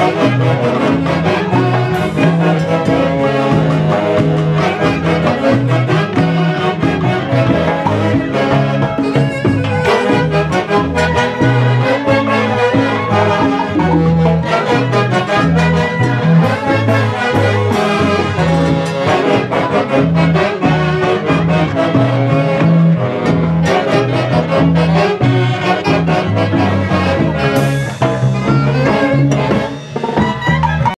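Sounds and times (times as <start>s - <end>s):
brass band playing latin dance tune: 0.0s - 31.0s.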